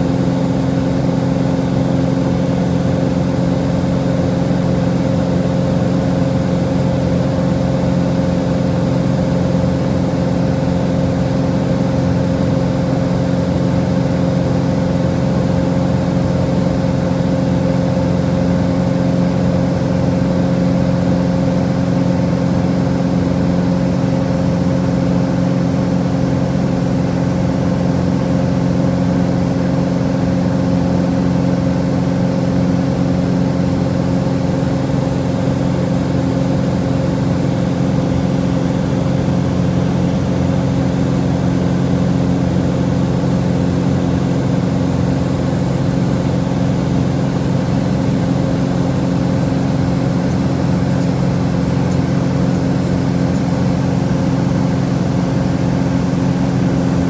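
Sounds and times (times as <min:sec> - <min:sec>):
plane engine droning in cabin: 0:00.0 - 0:57.0.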